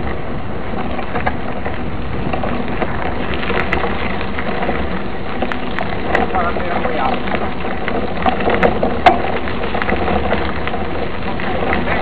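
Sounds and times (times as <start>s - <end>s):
bike clicks and rattles: 0.0s - 12.0s
bike tyres on gravel: 0.0s - 12.0s.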